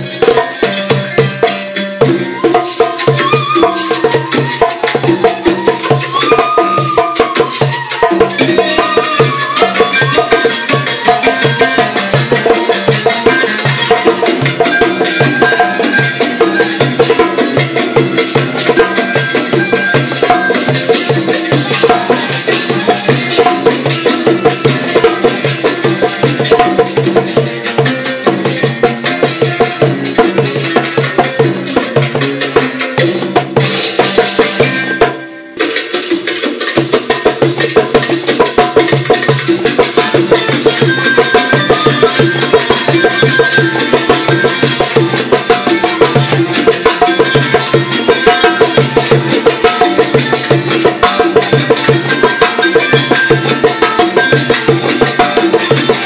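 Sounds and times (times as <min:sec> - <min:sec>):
percussive background music: 0:00.0 - 0:56.0.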